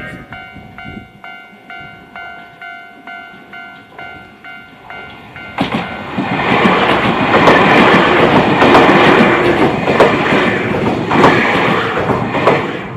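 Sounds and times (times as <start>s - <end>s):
rushing noise of train cars: 0.0s - 12.9s
train wheels clicking over rail joints: 1.7s - 12.9s.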